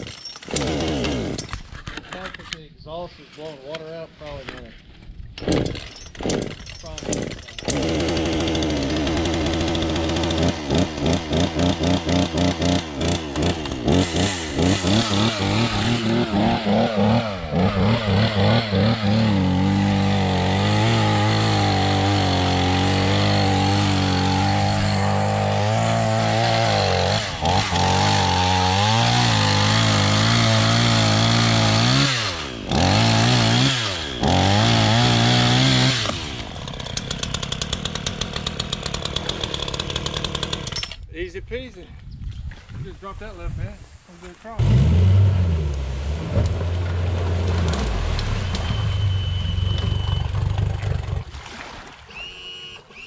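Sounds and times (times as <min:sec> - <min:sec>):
chainsaw engine running: 0:00.0 - 0:01.6, 0:05.4 - 0:41.0, 0:44.6 - 0:51.2.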